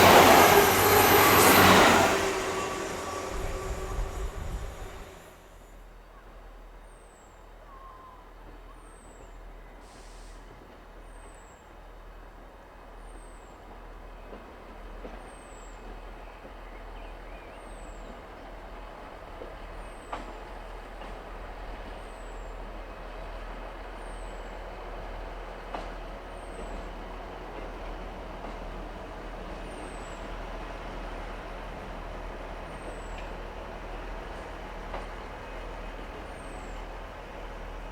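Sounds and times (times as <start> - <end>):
train running: 0.0 - 5.7, 12.0 - 37.9.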